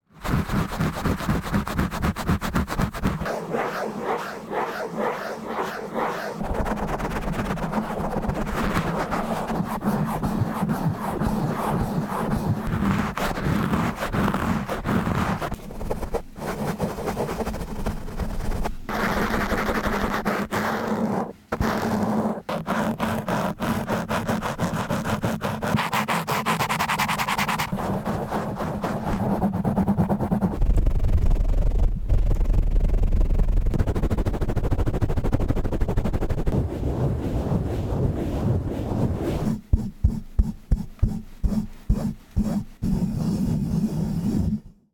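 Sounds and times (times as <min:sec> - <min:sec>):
fingers scratching microphone windscreen: 0:00.2 - 0:44.8.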